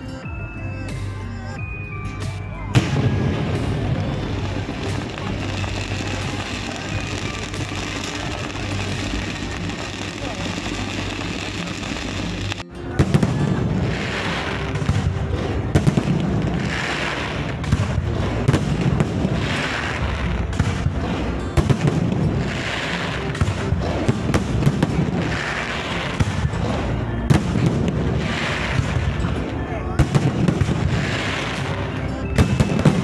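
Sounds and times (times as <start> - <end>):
fireworks bangs and crackles: 2.3 - 33.0.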